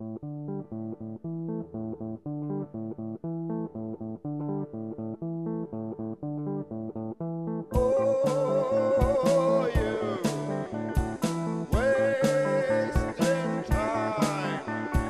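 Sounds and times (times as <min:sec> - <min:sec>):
background music melody: 0:00.0 - 0:15.0.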